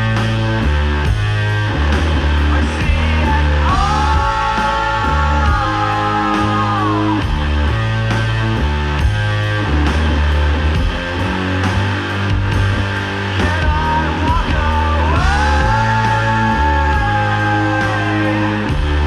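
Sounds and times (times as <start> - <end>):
drums: 0.0 - 19.0
heavy distorted guitar riff: 0.0 - 19.0
high sliding guitar tone: 0.0 - 19.0.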